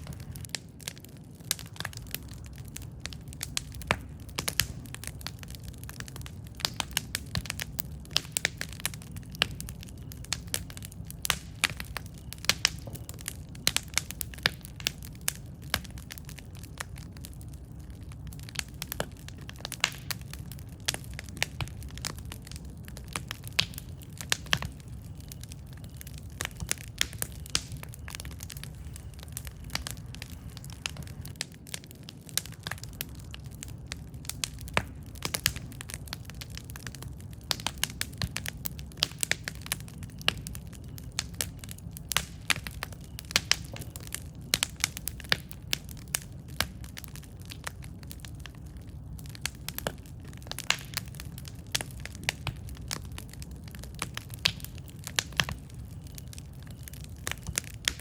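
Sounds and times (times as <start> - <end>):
burning wood crackling and popping: 0.0 - 58.0
campfire flames rumbling: 0.0 - 58.0.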